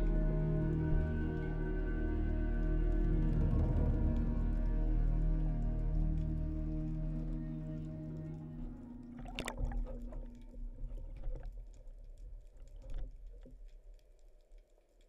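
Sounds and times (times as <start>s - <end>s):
water sloshing and bubbling: 2.2s - 15.0s.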